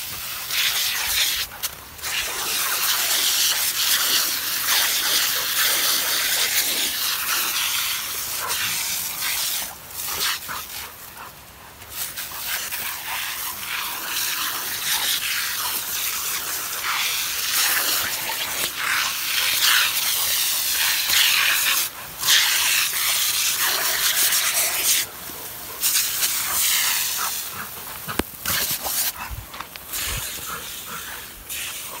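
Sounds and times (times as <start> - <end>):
sprinkler hissing: 0.0 - 32.0.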